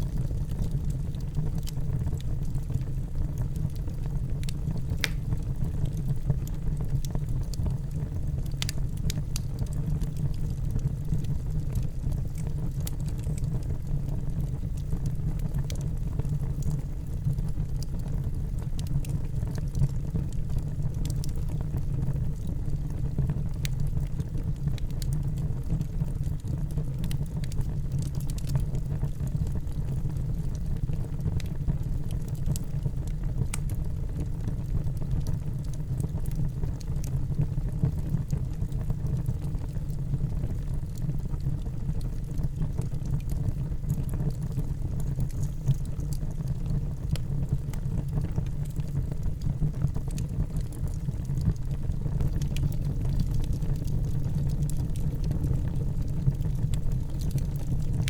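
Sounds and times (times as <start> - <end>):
fire crackles and pops: 0.0 - 58.0
low rumble of flames: 0.0 - 58.0.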